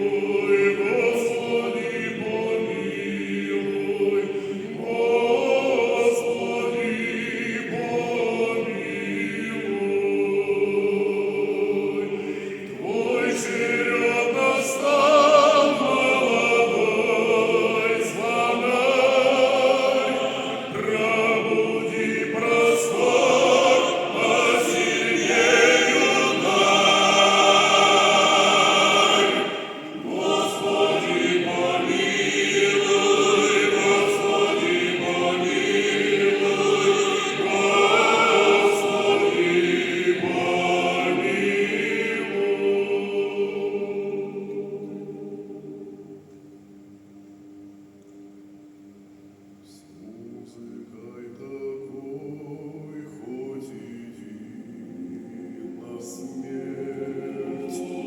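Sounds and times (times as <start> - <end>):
male choir singing: 0.0 - 46.2, 50.0 - 58.0.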